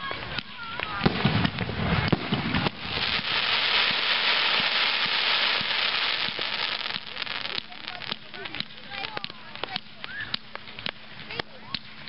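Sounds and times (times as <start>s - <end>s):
crackling hiss of sparks: 0.0s - 11.9s
low booms and pops: 0.2s - 11.0s.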